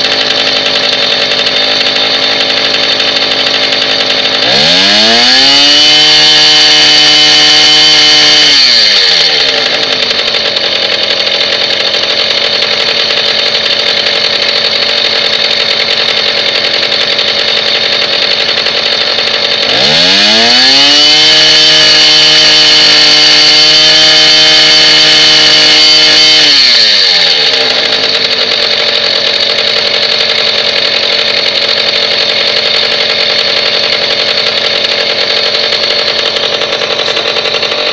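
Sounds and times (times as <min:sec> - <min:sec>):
moped engine revving and idling: 0:00.0 - 0:37.9.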